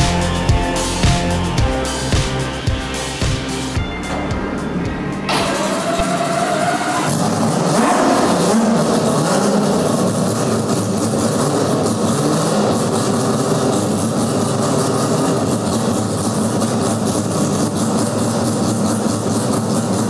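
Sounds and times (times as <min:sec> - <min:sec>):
racing engine idling loudly: 0:00.0 - 0:20.0.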